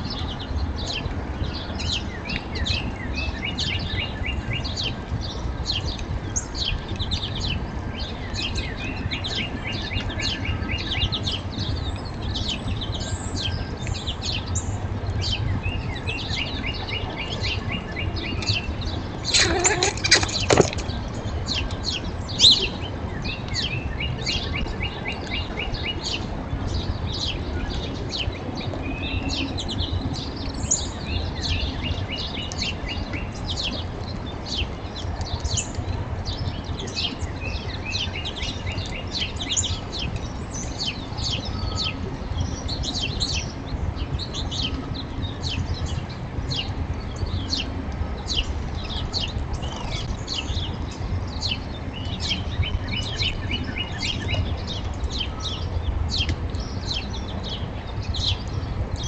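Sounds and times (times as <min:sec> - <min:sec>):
songbirds chirping and trilling: 0:00.0 - 0:59.0
steady low rumble: 0:00.0 - 0:59.0.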